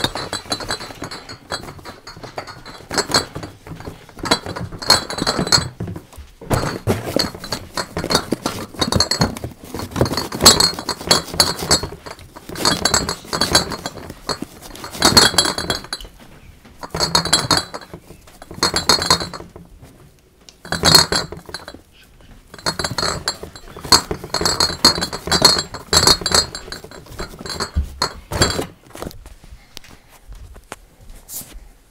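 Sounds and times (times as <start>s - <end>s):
beer bottles clinking in boxes: 0.0s - 20.0s, 20.6s - 29.2s.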